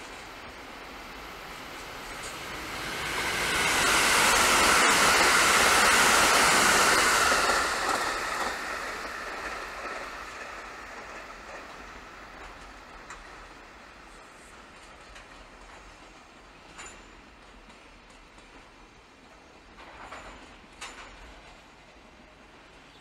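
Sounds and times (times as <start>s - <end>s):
electric train passing: 0.0s - 18.6s.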